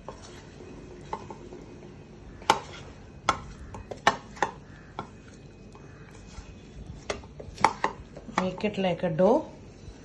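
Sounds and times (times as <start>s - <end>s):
spoon knocking and scraping a bowl: 0.0s - 1.7s, 2.4s - 8.8s.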